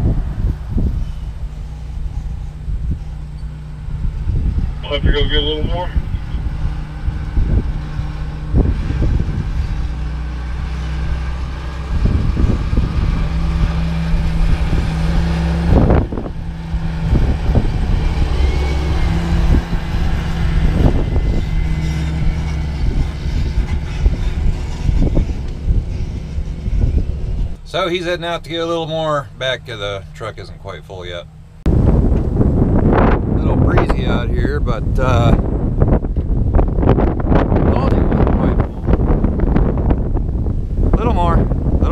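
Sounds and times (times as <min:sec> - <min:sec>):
wind bumps on microphone: 0:00.0 - 0:30.5, 0:31.6 - 0:41.9
tractor diesel engine hum: 0:00.0 - 0:41.9.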